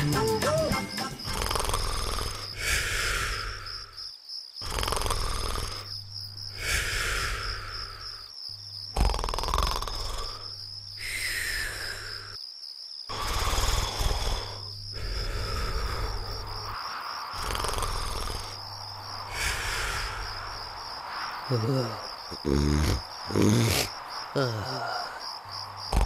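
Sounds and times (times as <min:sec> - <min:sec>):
cartoon snoring: 0:00.6 - 0:04.0, 0:04.6 - 0:08.3, 0:08.9 - 0:12.4, 0:13.1 - 0:18.6, 0:19.2 - 0:20.7, 0:21.5 - 0:26.0.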